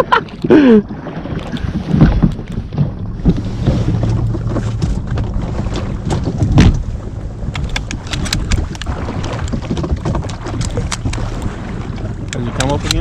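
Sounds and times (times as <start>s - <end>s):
water moving around boat: 0.0s - 13.0s
wind buffeting microphone: 0.0s - 13.0s.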